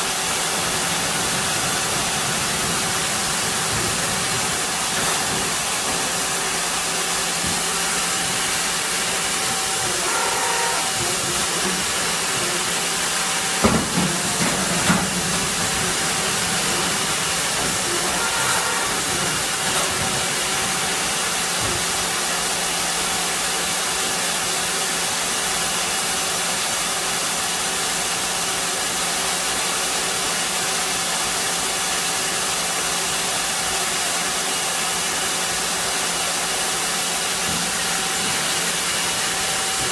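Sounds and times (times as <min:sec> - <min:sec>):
machine humming and hissing: 0:00.0 - 0:39.9.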